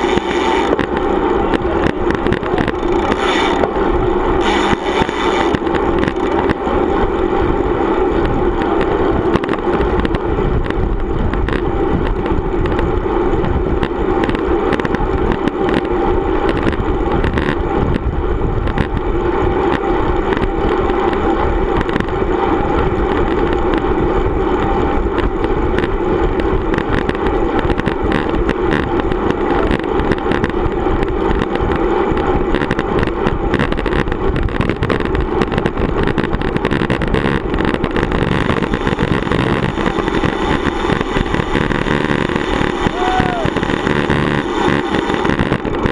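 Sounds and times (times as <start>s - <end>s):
rattling clicks from road vibration: 0.0s - 45.9s
wind and road noise: 0.0s - 45.9s.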